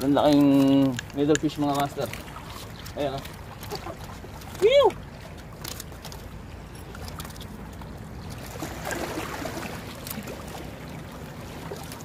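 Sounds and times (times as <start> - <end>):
small waves lapping on rocks: 0.0 - 12.0.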